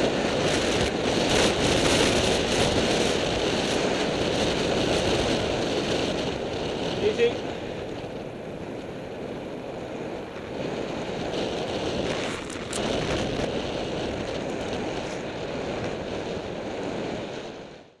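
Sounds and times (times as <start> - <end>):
tyre and road noise: 0.0 - 18.0
wind on microphone: 0.0 - 18.0.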